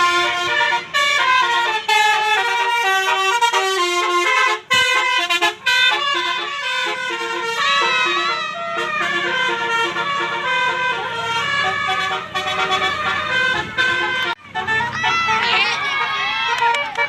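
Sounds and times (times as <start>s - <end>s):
multi-tone bus air horn melody: 0.0s - 17.0s.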